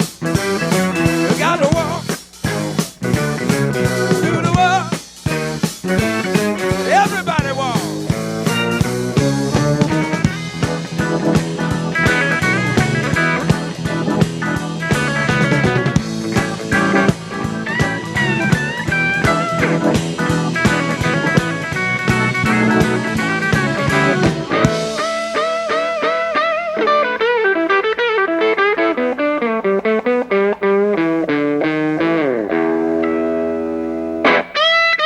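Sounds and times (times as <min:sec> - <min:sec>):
drums: 0:00.0 - 0:35.0
electric guitar lead: 0:00.0 - 0:35.0.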